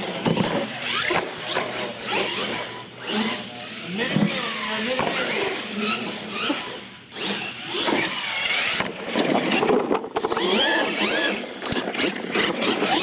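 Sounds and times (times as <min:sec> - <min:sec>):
toy truck motors whining: 0:00.0 - 0:13.0.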